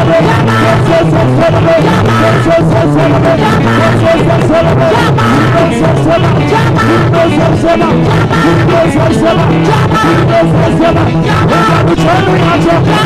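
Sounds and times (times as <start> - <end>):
gospel band playing: 0.0 - 13.0
person singing: 0.0 - 13.0.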